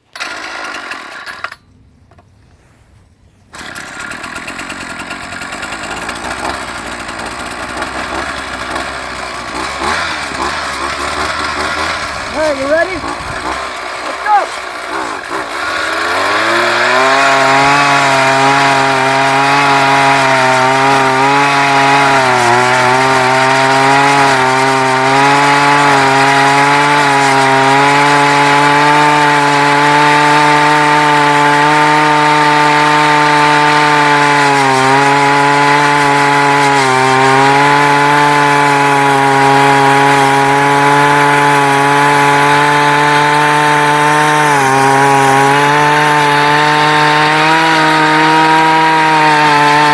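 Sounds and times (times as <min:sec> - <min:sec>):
ice auger engine revving: 0:00.0 - 0:01.6, 0:03.5 - 0:49.9.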